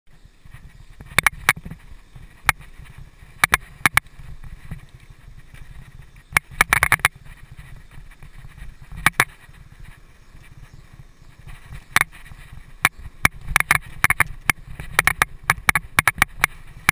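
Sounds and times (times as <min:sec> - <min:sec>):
bike clicks and clatters: 0:00.1 - 0:16.9
wind and tyres rumbling: 0:00.1 - 0:16.9.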